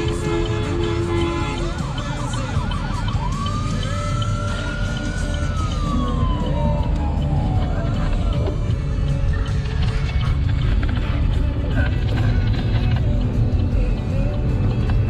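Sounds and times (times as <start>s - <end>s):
car engine and road rumble: 0.0s - 15.0s
emergency vehicle siren: 0.0s - 15.0s.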